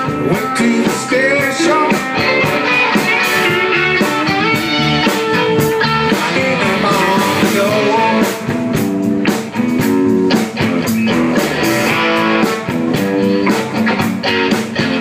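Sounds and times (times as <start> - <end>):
guitar chords: 0.0 - 15.0
steady drum beat: 0.0 - 15.0.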